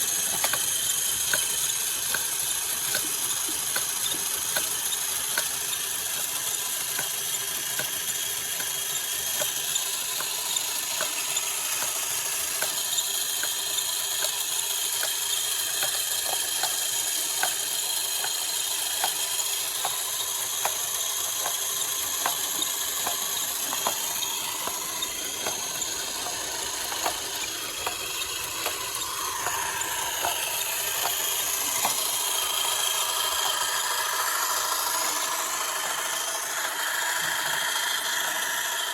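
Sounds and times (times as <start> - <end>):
gear clicks: 0.0 - 38.8
small electric motor whining: 0.0 - 38.9.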